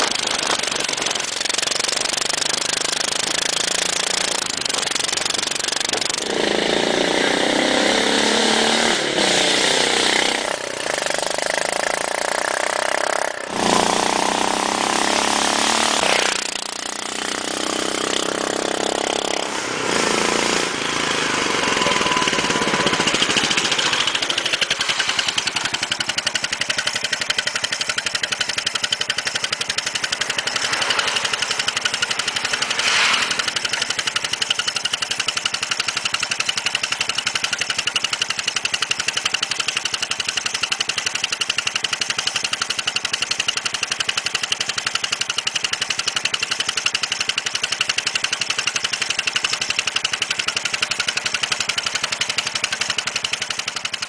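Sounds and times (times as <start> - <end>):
motorcycle engine exhaust beat: 0.0 - 54.0.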